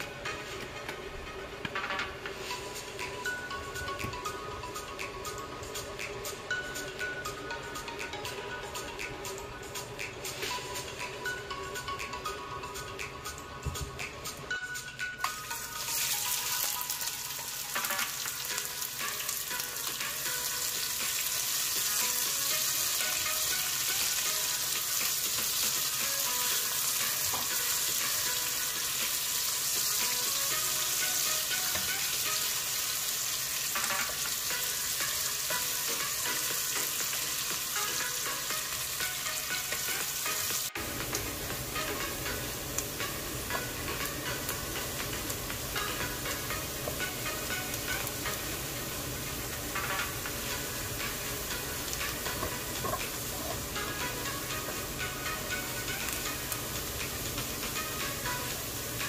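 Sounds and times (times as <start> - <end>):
food sizzling in a pan: 1.8 - 7.8, 15.2 - 59.0.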